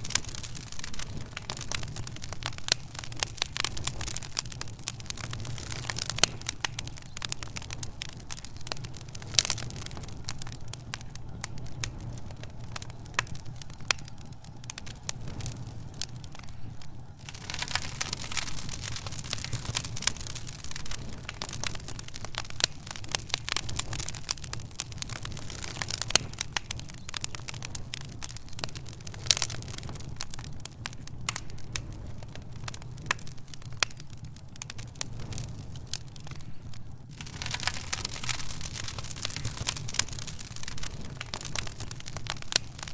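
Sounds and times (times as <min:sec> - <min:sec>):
fireplace fire crackling: 0:00.0 - 0:42.9.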